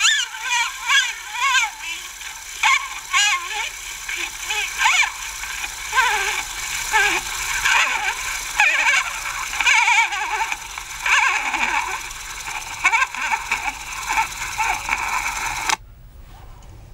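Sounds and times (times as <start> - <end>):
record surface hiss: 0.0 - 16.9.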